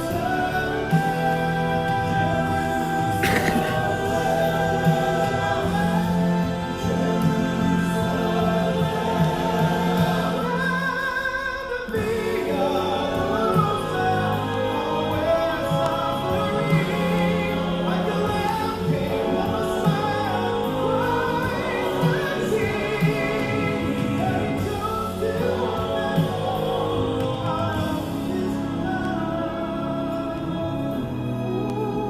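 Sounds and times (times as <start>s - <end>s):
men singing in harmony: 0.0s - 32.0s.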